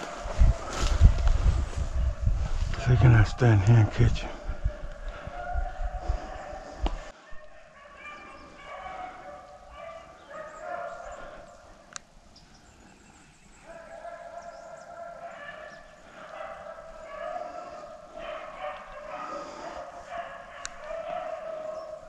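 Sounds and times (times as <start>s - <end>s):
hounds baying: 2.0s - 11.8s, 13.6s - 22.0s.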